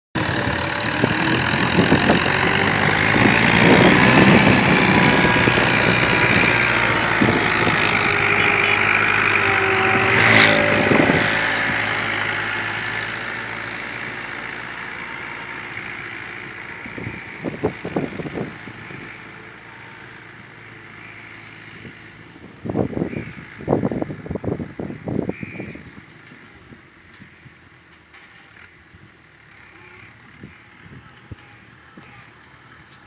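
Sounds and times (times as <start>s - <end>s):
tractor engine running: 0.1s - 33.0s.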